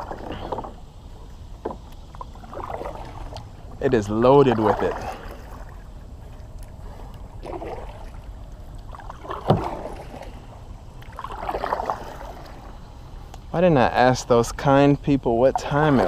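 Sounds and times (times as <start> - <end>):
paddle swishing water: 0.0 - 14.6, 15.3 - 16.0.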